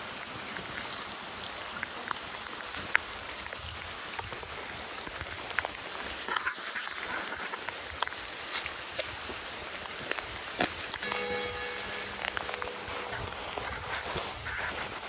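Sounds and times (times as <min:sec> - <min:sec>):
rain on wet pavement: 0:00.0 - 0:15.0.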